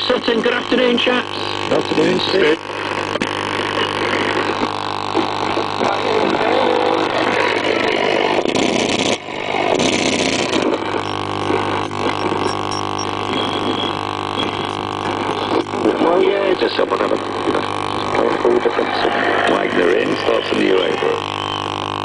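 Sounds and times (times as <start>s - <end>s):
hissing radio static: 0.0s - 22.0s
radio low hum: 0.0s - 22.0s.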